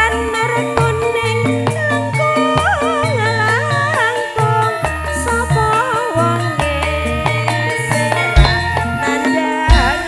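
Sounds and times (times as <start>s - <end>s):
low bass line: 0.0s - 9.0s
gamelan metallophone notes: 0.0s - 10.0s
woman singing: 0.0s - 10.0s.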